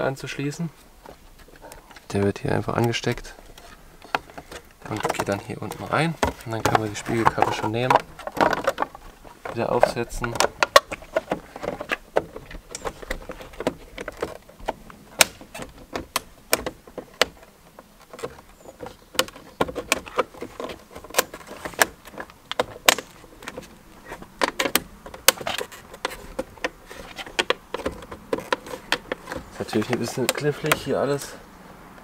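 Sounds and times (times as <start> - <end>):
hard plastic clicking: 1.0 - 31.4.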